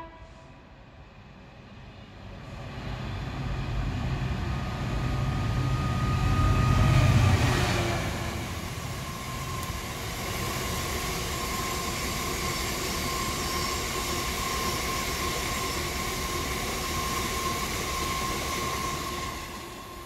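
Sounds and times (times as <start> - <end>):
high whine of train: 0.0 - 20.0
train rolling past: 0.0 - 20.0.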